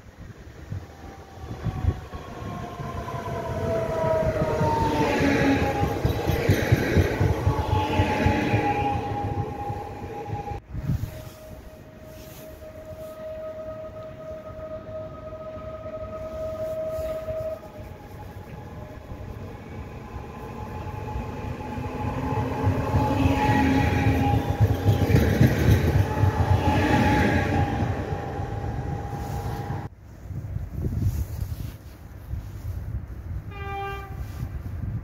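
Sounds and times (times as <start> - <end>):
electric train whine: 0.0 - 29.9
wheels rumbling on rails: 0.0 - 29.9.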